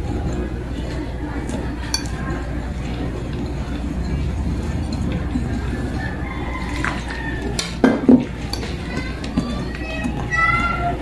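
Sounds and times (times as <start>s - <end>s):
low steady hum: 0.0s - 11.0s
wire whisk stirring in glass bowl: 0.0s - 11.0s
whisk clinking against glass: 1.8s - 10.8s.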